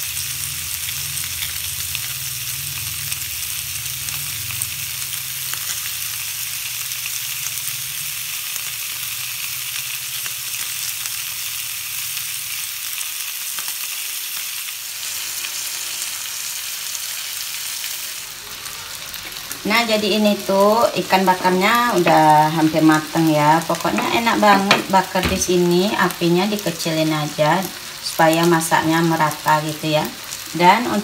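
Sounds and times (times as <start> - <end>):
fish sizzling on a grill pan: 0.0 - 31.0.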